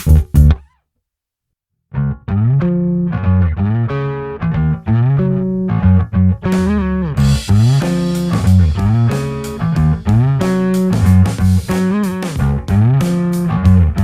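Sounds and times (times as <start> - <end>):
plucked bass guitar notes: 0.0 - 0.7, 2.0 - 14.0.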